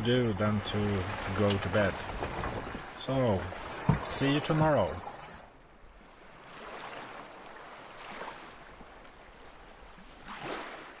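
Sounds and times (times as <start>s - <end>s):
small waves washing in: 0.0s - 11.0s.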